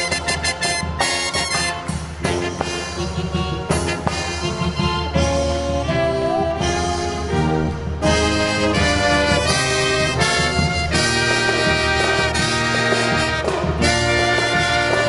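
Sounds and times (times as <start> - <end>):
brass marching band playing: 0.0 - 15.0.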